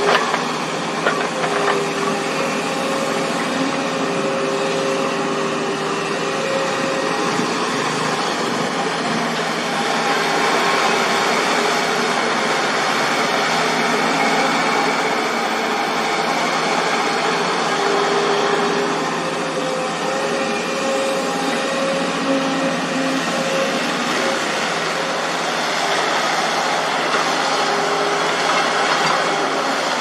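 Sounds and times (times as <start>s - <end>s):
diesel excavator engine running: 0.0s - 30.0s.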